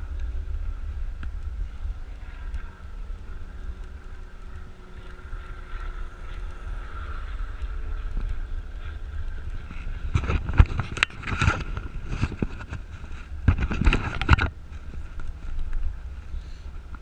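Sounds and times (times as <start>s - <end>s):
road noise whine: 0.0s - 17.0s
wind buffeting microphone: 0.0s - 17.0s.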